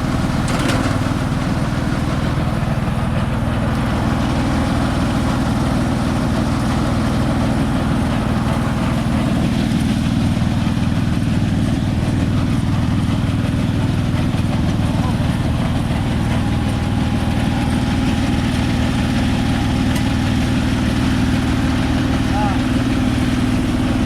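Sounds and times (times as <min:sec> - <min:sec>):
harvester engine humming: 0:00.0 - 0:24.0.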